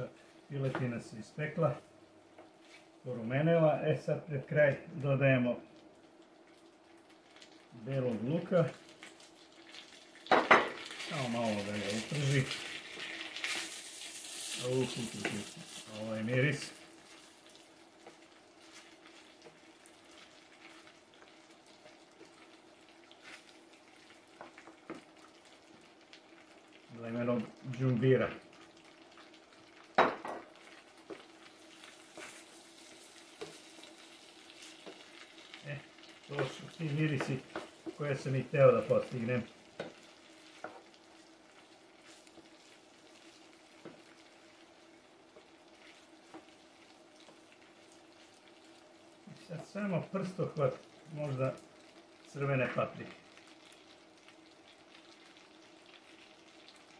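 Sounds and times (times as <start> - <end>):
chicken sizzling in a pan: 0.0 - 56.9
faint steady hum: 0.0 - 56.9.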